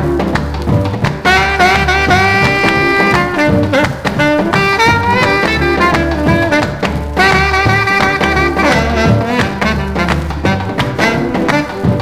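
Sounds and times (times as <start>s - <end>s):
held horn notes over swing beat: 0.0s - 12.0s.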